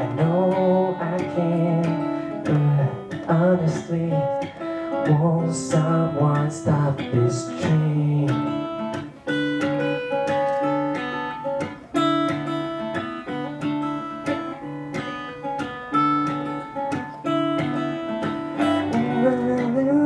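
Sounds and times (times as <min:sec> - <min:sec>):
fingerstyle acoustic guitar: 0:00.0 - 0:20.0.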